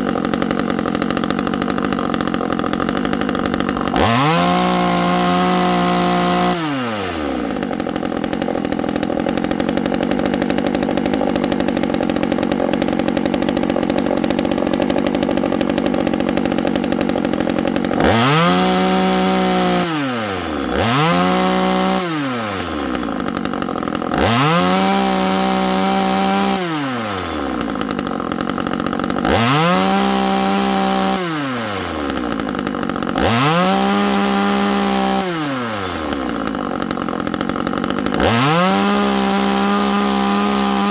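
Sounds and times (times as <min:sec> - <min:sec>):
chainsaw engine idling: 0:00.0 - 0:40.9
chainsaw engine revving: 0:00.0 - 0:40.9.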